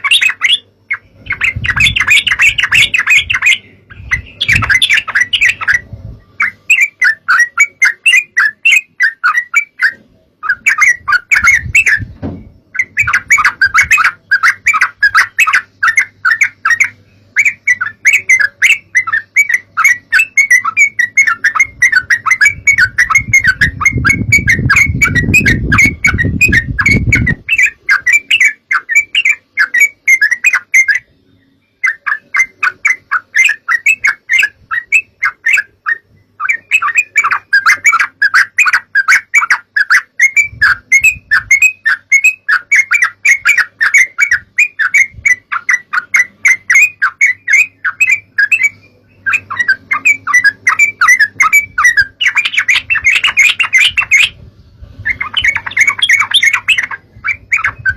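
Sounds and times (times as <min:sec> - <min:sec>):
bird song chattering notes: 0:00.0 - 0:57.9.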